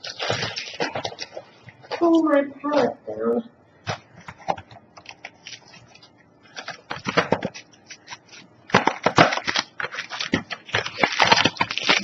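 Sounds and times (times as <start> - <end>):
plastic wrapper crinkling: 0.0 - 2.9, 3.8 - 12.0.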